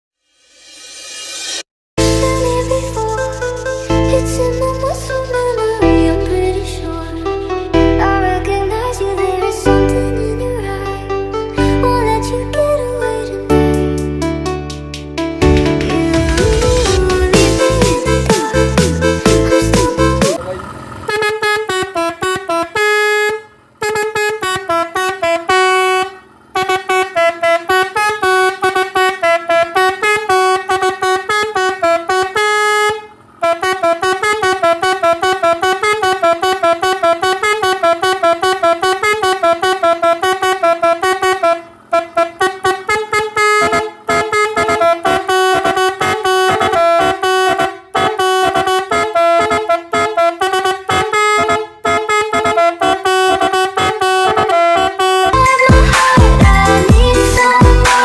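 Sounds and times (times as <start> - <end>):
musical horn tooting melodies: 2.0 - 8.8, 15.4 - 58.0.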